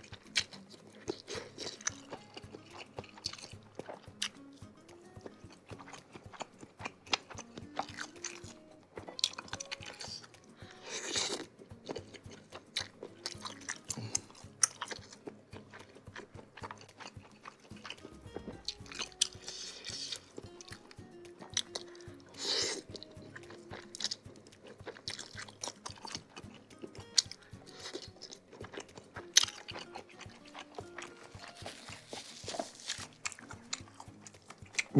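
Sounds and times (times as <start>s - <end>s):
person chewing crunchy food: 0.0s - 34.9s.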